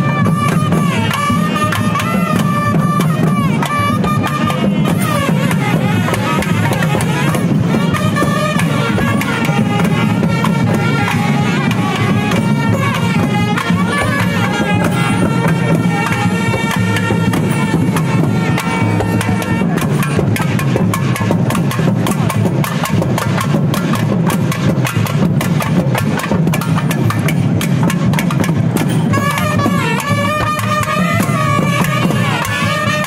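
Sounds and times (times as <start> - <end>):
double-reed pipes melody: 0.0 - 22.3, 28.2 - 33.0
barrel drums: 0.0 - 33.0.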